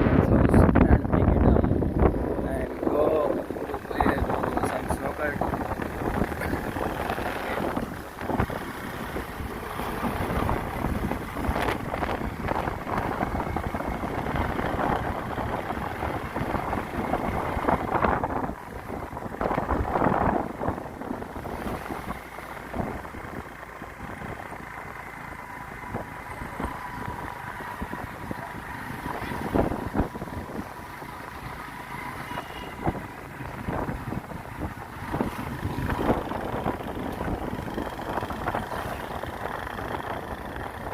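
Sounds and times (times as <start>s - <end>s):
road and engine rumble: 0.0s - 40.9s
wind buffeting microphone: 0.0s - 40.9s.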